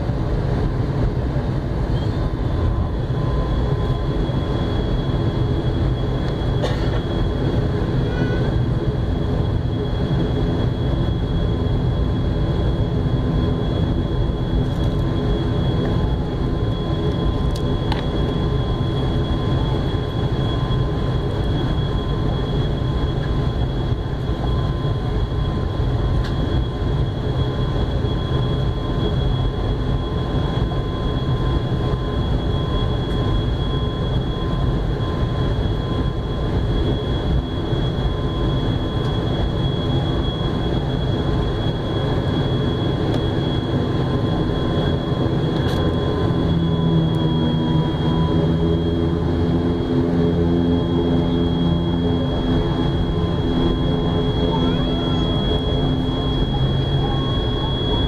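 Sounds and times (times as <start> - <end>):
deep pitched engine hum: 0.0 - 58.0
turboprop engines rumbling and whining: 0.0 - 58.0.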